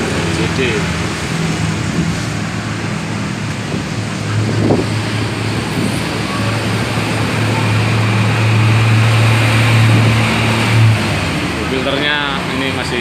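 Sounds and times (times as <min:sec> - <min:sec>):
low engine hum: 0:00.0 - 0:13.0
noisy background: 0:00.0 - 0:13.0.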